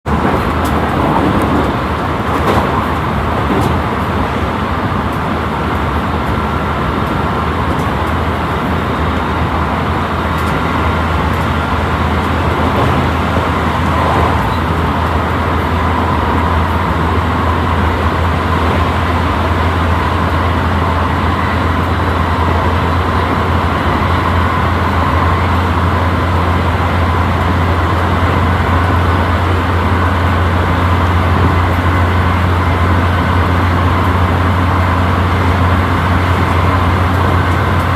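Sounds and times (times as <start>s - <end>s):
electric train rumbling: 0.0s - 37.9s.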